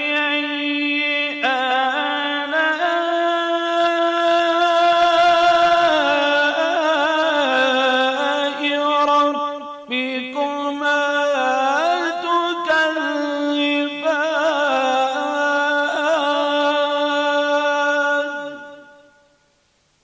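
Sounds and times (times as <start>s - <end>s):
man chanting melodically: 0.0s - 19.3s.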